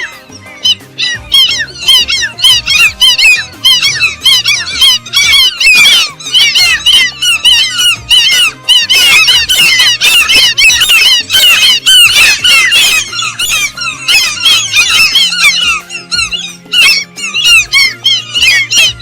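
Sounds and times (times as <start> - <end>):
background music: 0.0 - 19.0
birds chattering: 0.0 - 19.0.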